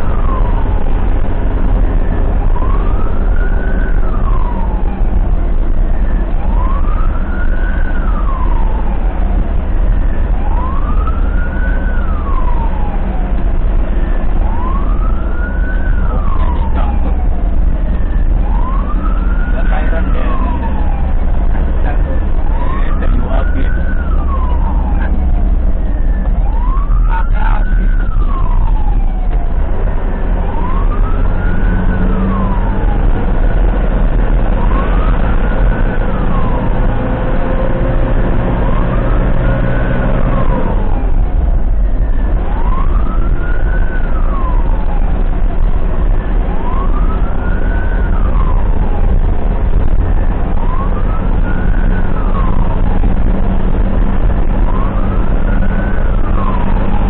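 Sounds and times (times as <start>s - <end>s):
ambulance siren wailing: 0.0s - 57.0s
engine rumble and road noise: 0.0s - 57.0s.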